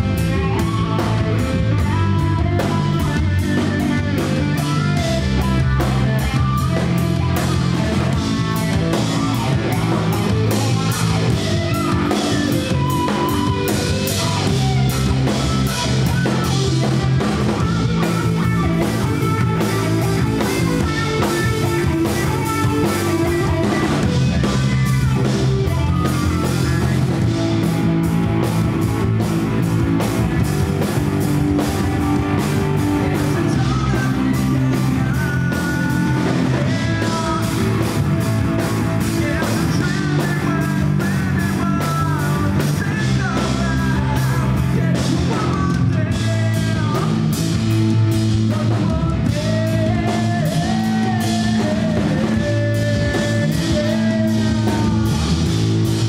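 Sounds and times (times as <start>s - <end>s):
man singing: 0.0s - 27.7s, 31.6s - 56.0s
rock band playing live: 0.0s - 56.0s.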